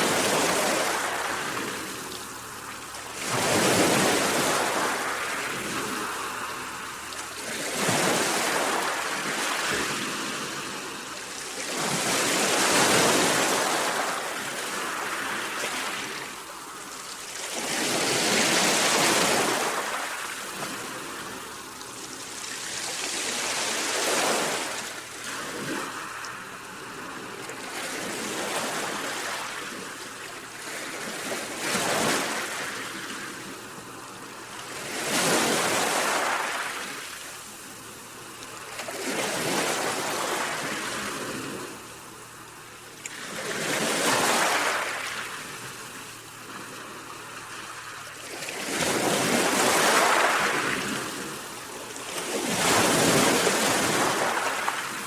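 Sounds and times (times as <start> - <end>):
sea waves breaking ashore: 0.0 - 55.0.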